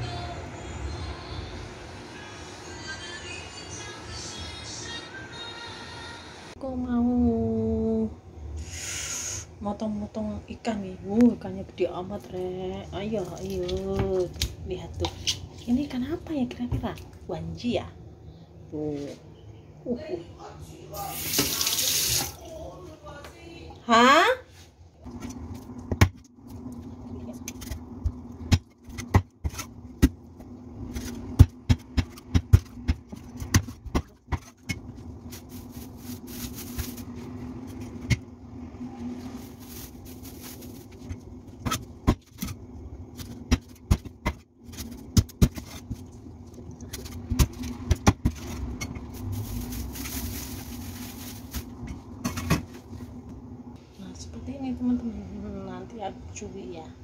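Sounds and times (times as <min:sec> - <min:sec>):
steady low hum: 0:06.4 - 0:21.0, 0:22.9 - 0:57.0.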